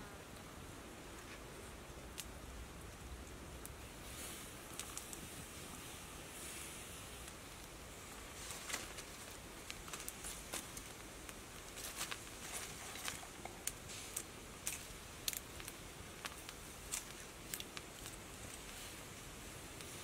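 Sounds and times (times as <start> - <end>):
faint steady hiss: 0.0 - 20.0
fire crackling and popping: 0.4 - 20.0.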